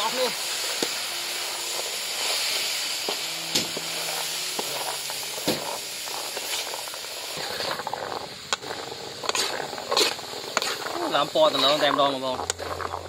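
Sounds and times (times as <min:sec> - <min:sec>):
fruit sizzling in pan: 0:00.0 - 0:13.0.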